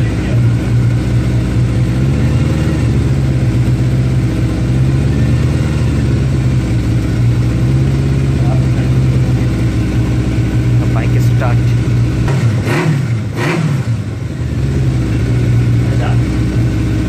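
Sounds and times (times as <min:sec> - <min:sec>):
motorcycle engine idling: 0:00.0 - 0:02.1, 0:02.9 - 0:17.0.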